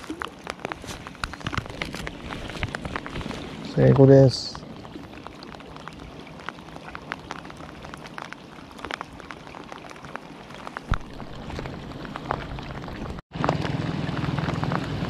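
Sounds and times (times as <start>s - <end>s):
rain falling: 0.0s - 15.0s
raindrops ticking nearby: 0.0s - 15.0s.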